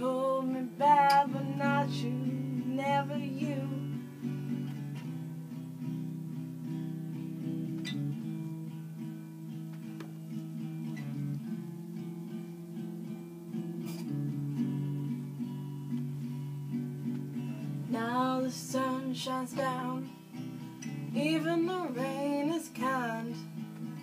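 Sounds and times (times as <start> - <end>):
acoustic guitar strummed and picked: 0.0 - 24.0.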